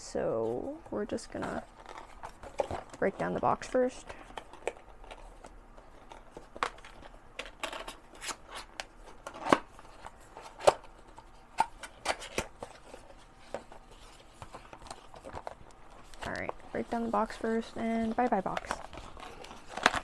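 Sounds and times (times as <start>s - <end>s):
cardboard folding and tearing: 0.6s - 20.0s.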